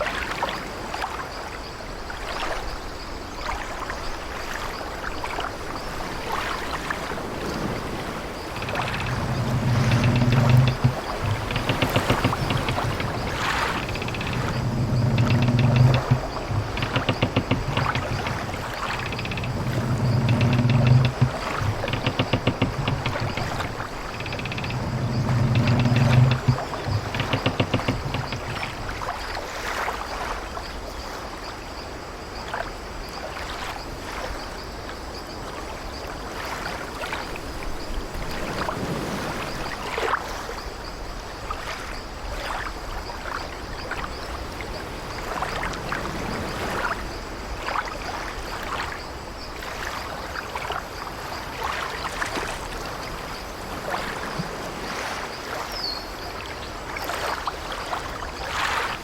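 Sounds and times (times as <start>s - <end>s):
sea waves washing against ship: 0.0s - 59.0s.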